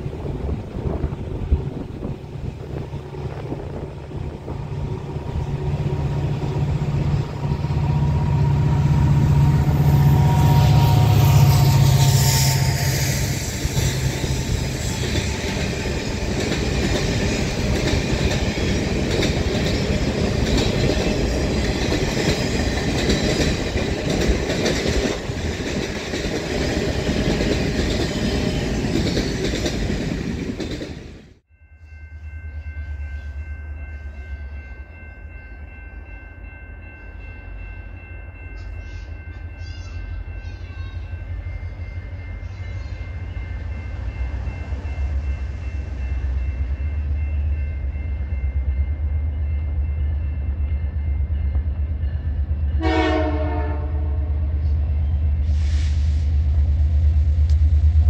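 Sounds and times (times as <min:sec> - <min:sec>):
diesel locomotive engine rumble: 0:00.0 - 0:58.0
train wheels on rails: 0:00.0 - 0:58.0.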